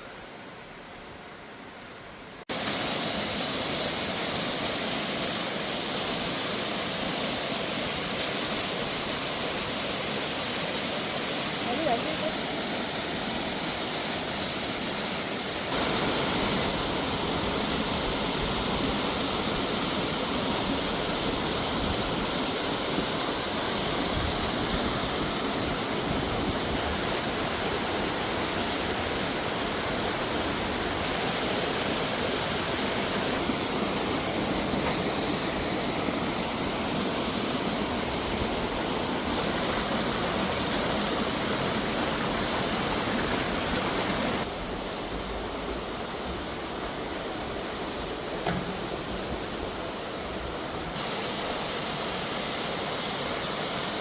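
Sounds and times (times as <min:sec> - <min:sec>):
rushing water roar: 0:00.0 - 0:54.0.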